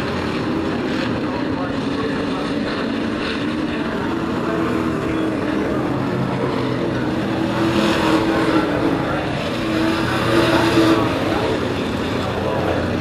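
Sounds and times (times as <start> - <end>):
race truck engines racing: 0.0 - 13.0.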